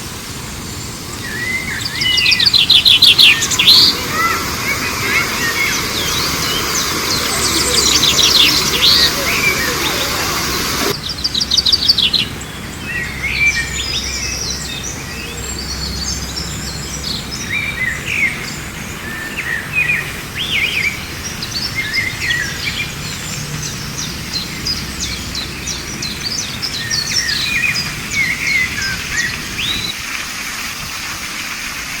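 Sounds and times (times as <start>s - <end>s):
small birds chirping and singing: 0.6s - 30.0s.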